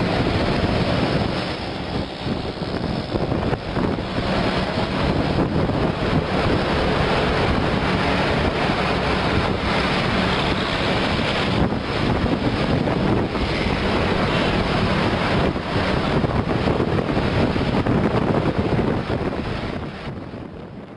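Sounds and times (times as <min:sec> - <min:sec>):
vehicle road noise in traffic: 0:00.0 - 0:20.9
wind rushing over microphone: 0:00.0 - 0:20.9.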